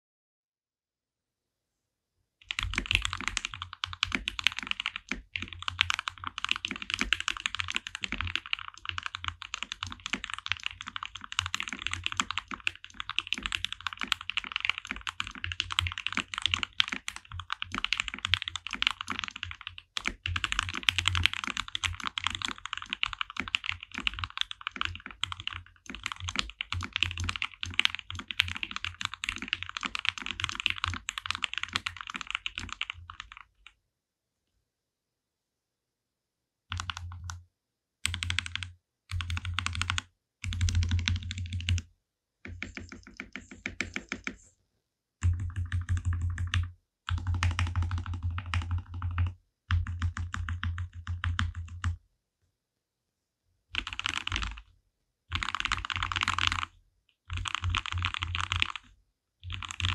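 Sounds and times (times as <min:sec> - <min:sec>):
fast typing on mechanical keyboard: 0:02.4 - 0:33.6, 0:36.7 - 0:37.4, 0:38.0 - 0:41.8, 0:42.5 - 0:44.4, 0:45.2 - 0:52.0, 0:53.8 - 0:54.6, 0:55.3 - 0:59.9.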